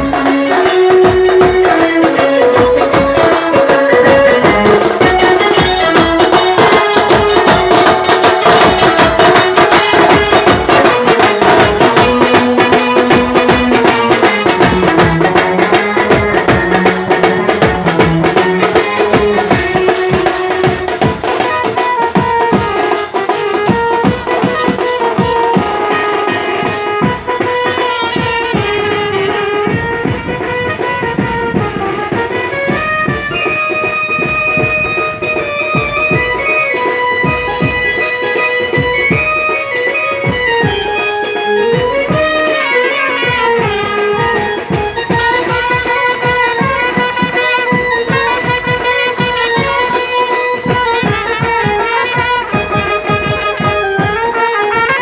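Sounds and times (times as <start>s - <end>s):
driving drums and percussion: 0.0s - 55.0s
wedding band melody of held notes: 0.0s - 55.0s.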